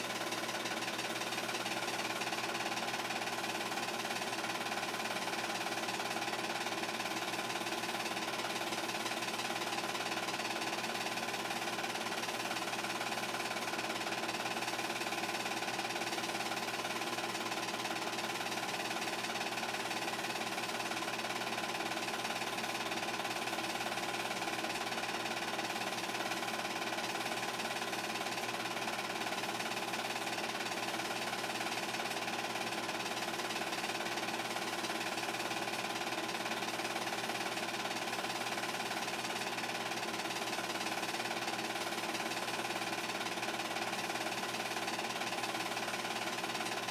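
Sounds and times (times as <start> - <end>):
film projector whirring and clattering: 0.0 - 46.9.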